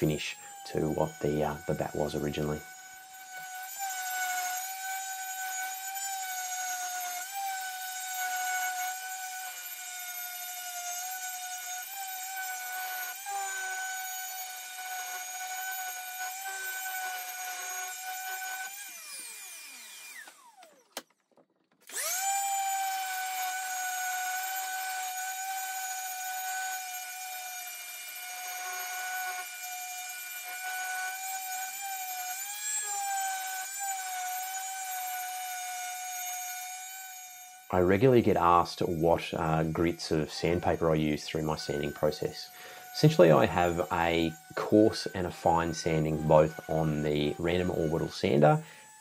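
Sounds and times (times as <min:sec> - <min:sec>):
orbital sander running: 0:00.0 - 0:20.9, 0:21.8 - 0:49.0.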